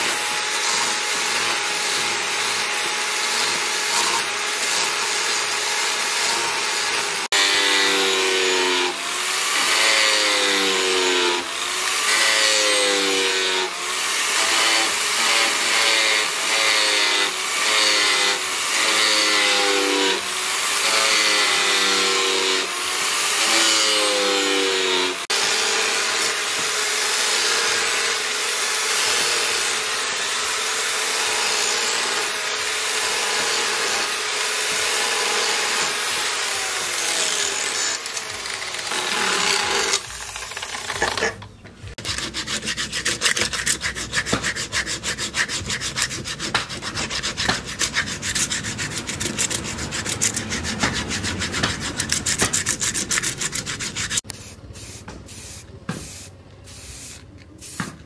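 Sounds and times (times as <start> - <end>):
angle grinder grinding steel: 0.0 - 54.4.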